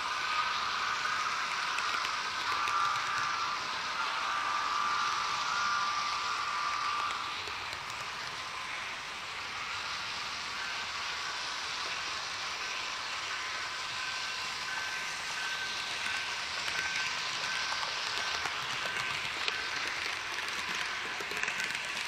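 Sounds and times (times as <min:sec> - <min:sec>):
faint high whine: 0:00.0 - 0:22.0
model train wheels hissing on rails: 0:00.0 - 0:22.0.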